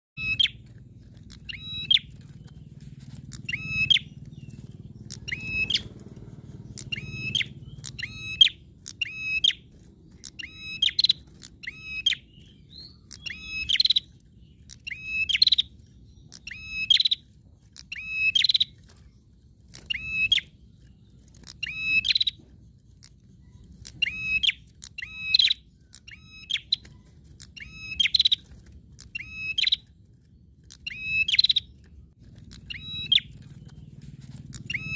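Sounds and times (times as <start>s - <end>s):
songbird calling: 0.2s - 34.9s.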